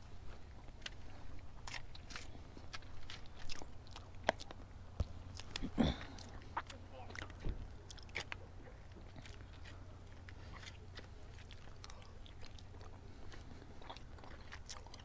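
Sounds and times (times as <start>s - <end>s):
low steady hum: 0.0s - 15.0s
chewing and mouth clicks: 0.3s - 15.0s.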